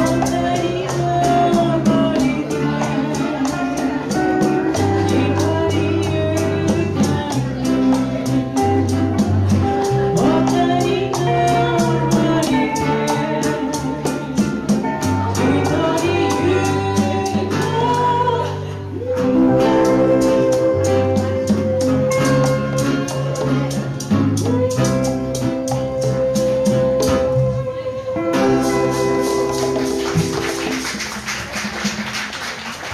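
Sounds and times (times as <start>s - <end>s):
woman singing: 0.0s - 23.8s, 24.4s - 29.8s
steel guitar: 0.0s - 30.9s
congas: 0.0s - 32.9s
guitar: 0.0s - 32.9s
maracas shaking: 0.0s - 32.9s.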